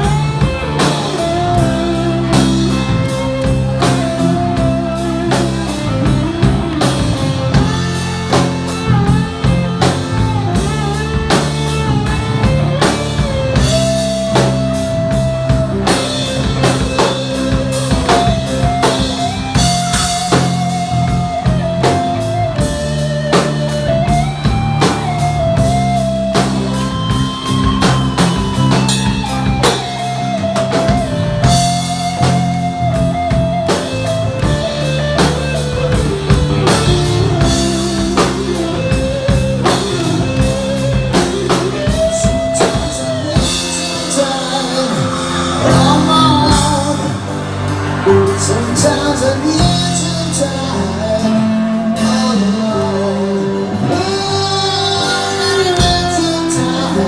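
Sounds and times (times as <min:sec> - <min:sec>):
drum kit beat: 0:00.0 - 0:57.0
rock guitar melody: 0:00.0 - 0:57.0.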